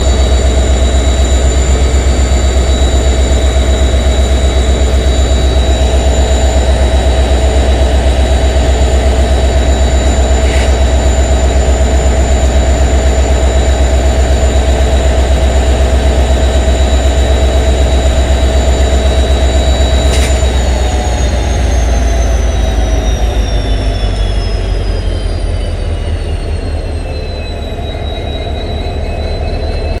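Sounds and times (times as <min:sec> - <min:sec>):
diesel locomotive engine hum: 0:00.0 - 0:30.0
high engine whines: 0:00.0 - 0:30.0.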